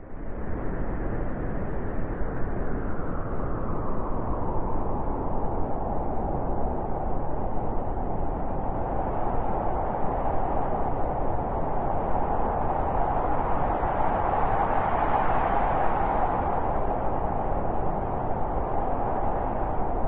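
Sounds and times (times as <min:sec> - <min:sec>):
blizzard wind howling: 0:00.0 - 0:20.0.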